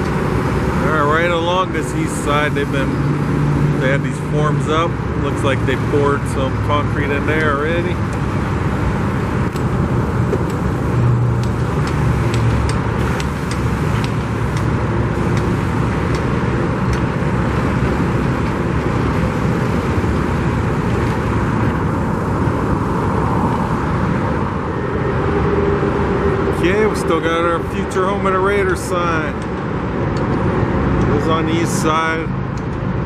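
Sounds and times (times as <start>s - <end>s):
passing cars traffic: 0.0s - 33.0s.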